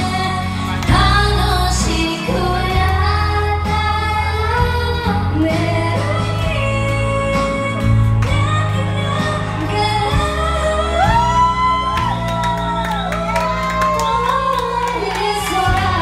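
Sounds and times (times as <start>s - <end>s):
women singing into microphones: 0.0s - 13.1s, 13.8s - 16.0s
backing music with heavy bass: 0.0s - 16.0s.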